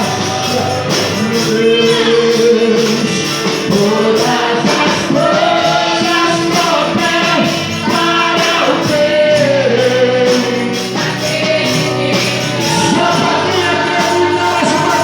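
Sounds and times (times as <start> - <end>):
gospel band playing steady beat: 0.0 - 15.0.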